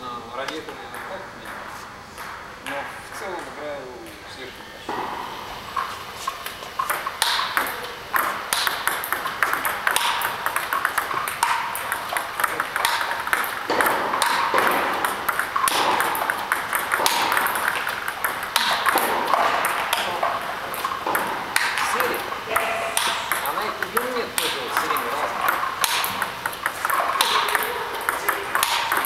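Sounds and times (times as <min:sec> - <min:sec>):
table tennis ball clicks: 0:04.9 - 0:29.0.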